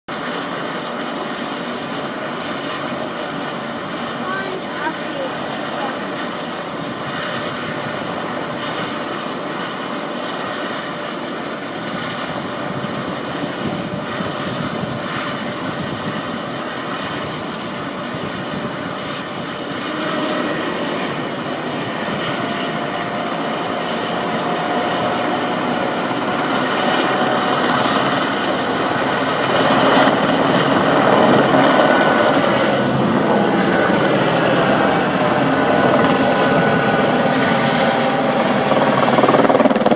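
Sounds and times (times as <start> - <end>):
helicopter turbine and rotor: 0.1 - 39.9.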